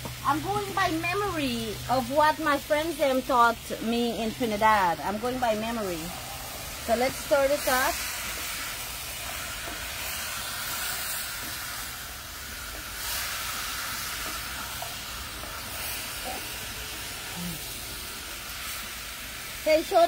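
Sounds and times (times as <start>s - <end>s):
meat sizzling in a pot: 0.0s - 20.0s.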